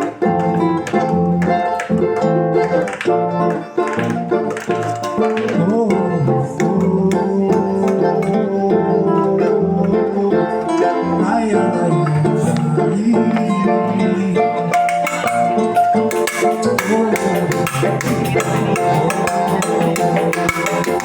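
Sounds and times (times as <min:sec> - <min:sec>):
percussion: 0:00.0 - 0:21.0
samba music with plucked strings: 0:00.0 - 0:21.0.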